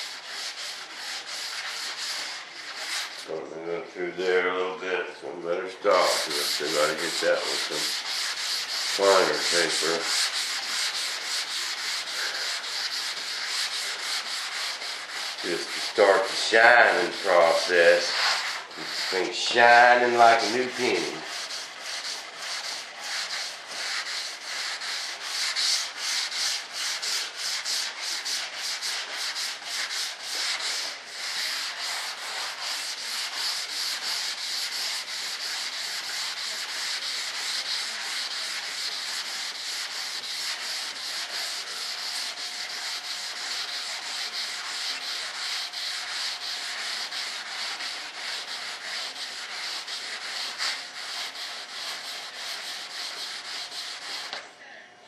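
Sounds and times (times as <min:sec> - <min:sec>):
sandpaper rubbing back and forth: 0:00.0 - 0:03.4, 0:05.9 - 0:54.4.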